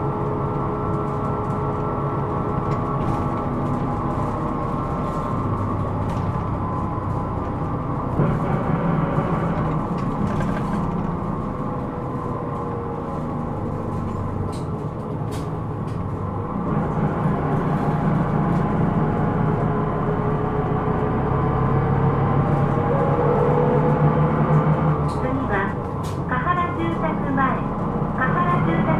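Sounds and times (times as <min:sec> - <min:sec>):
bus engine humming: 0:00.0 - 0:28.9.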